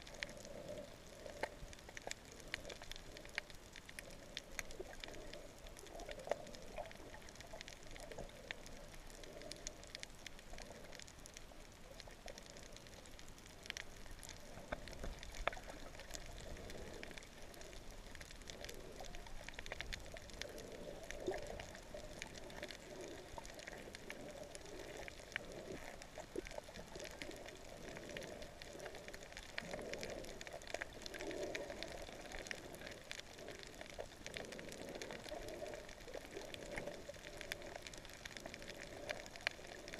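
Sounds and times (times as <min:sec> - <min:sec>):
faint crackle of clicks: 0:00.0 - 0:39.9.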